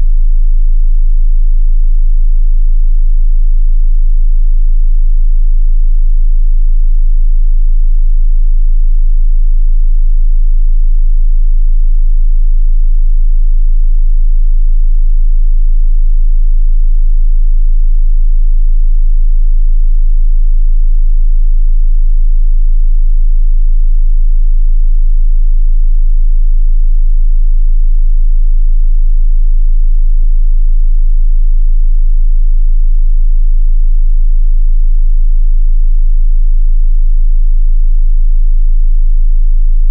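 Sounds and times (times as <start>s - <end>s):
deep bass sine tone: 0.0s - 39.9s.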